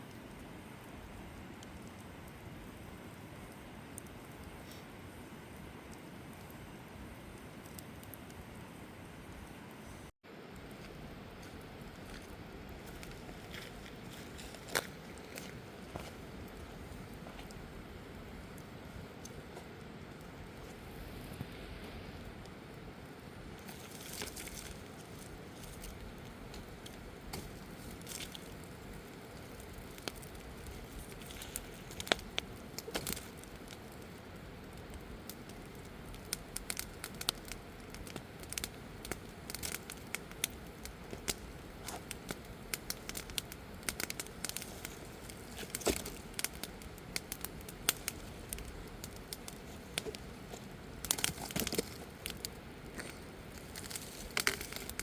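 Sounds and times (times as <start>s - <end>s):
wood campfire crackling: 0.0s - 55.0s.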